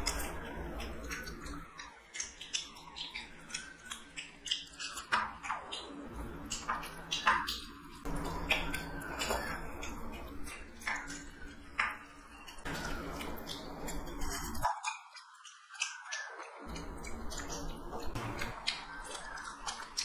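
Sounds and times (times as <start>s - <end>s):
chewing and mouth sounds: 0.0s - 20.0s.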